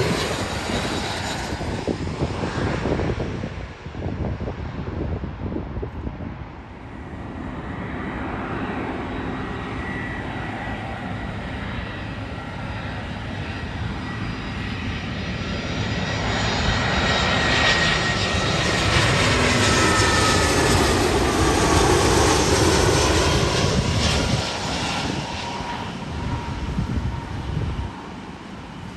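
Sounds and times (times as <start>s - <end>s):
jet engine high whine: 0.0s - 28.9s
jet passing overhead: 0.0s - 28.9s.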